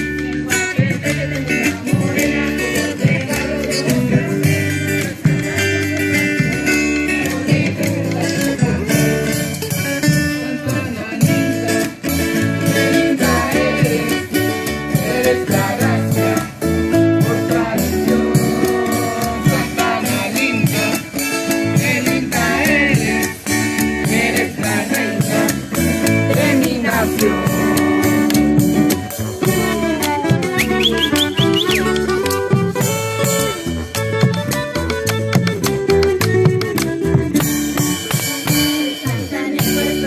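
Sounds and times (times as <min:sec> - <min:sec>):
person singing: 0:00.0 - 0:09.6, 0:10.3 - 0:28.4, 0:29.0 - 0:32.0, 0:38.0 - 0:40.0
drum beat: 0:00.0 - 0:40.0
maracas: 0:00.0 - 0:40.0
strummed acoustic guitars: 0:00.0 - 0:40.0.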